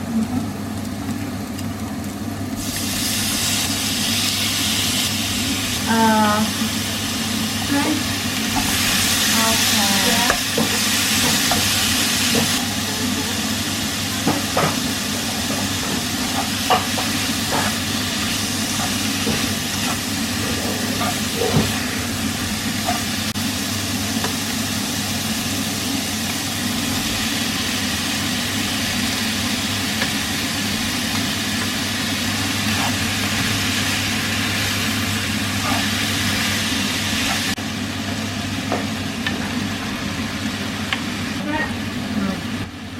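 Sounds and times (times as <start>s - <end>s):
food sizzling in a pan: 0.4s - 42.6s.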